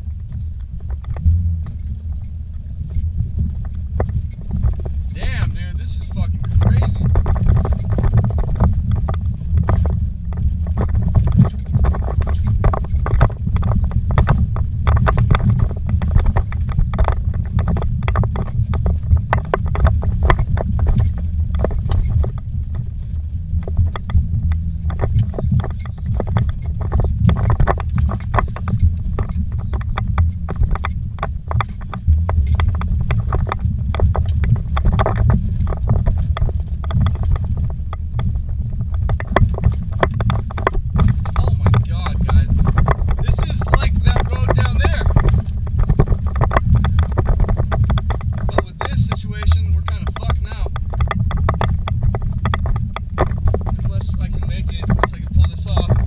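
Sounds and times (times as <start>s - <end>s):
knocks and rattles: 0.0s - 56.0s
vehicle rumble inside cabin: 0.0s - 56.0s.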